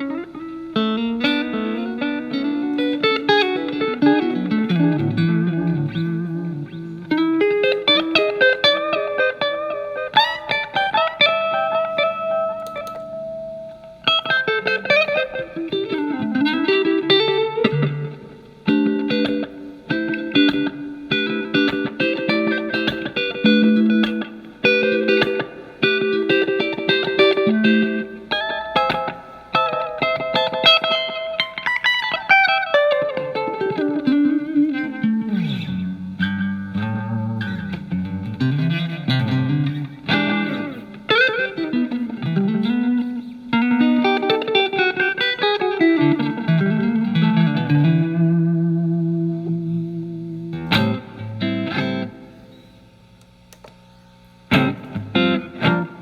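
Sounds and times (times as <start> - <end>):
electric guitar with delay: 0.0 - 53.5, 54.4 - 56.0.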